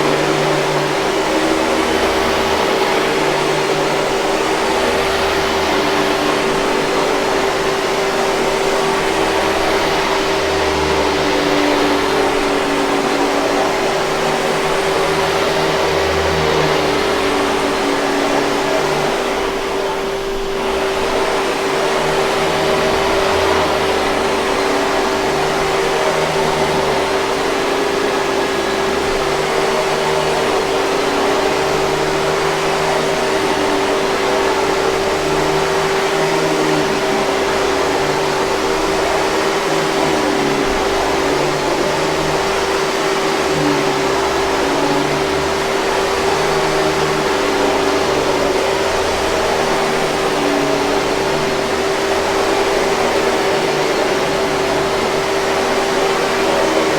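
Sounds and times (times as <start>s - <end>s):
vacuum cleaner air rushing: 0.0s - 56.9s
vacuum cleaner motor hum: 0.0s - 56.9s.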